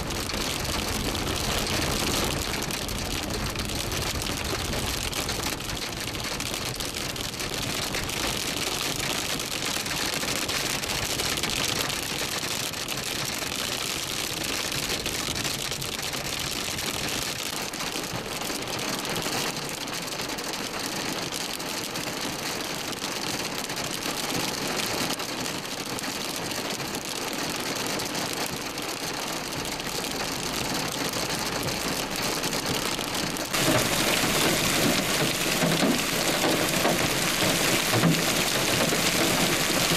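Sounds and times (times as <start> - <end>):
hail and rain on car roof: 0.0 - 39.9.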